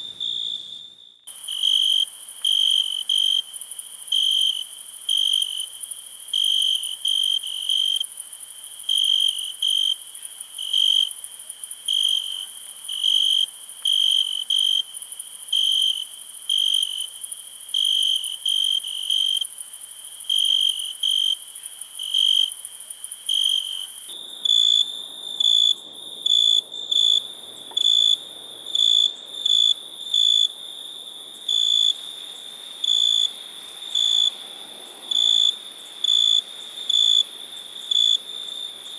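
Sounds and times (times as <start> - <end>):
crickets chirping: 0.0 - 38.9
high-pitched insect trill: 0.2 - 38.9.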